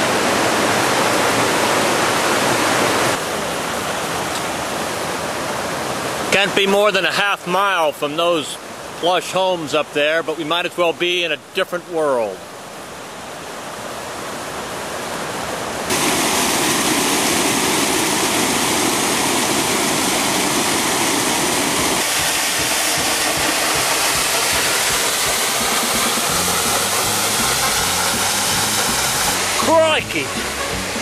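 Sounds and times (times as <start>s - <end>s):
waterfall rushing: 0.0s - 10.5s, 14.2s - 31.0s.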